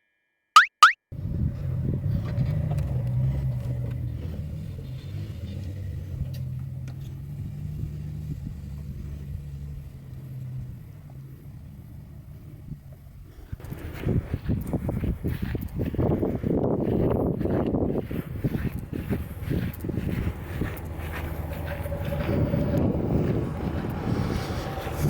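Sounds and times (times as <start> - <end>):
vehicle engine rumbling: 1.2 - 25.0.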